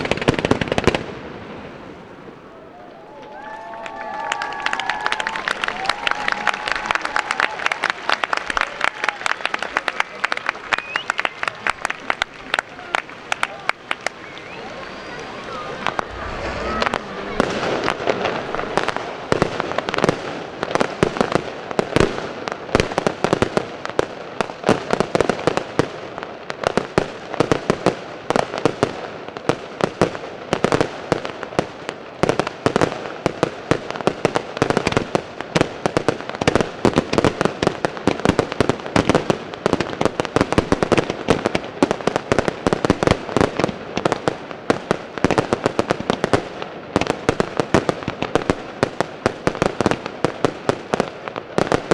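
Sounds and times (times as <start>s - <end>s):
fireworks launching and bursting: 0.0s - 51.9s.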